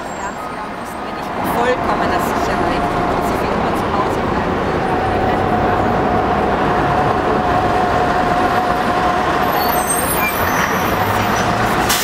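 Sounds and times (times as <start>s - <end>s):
heavy vehicles passing: 0.0s - 12.0s.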